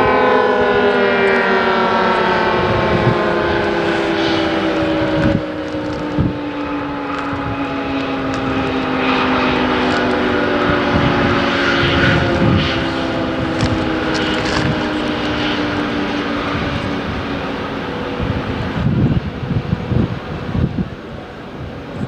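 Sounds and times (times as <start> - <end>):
rotating warning siren: 0.0 - 20.6.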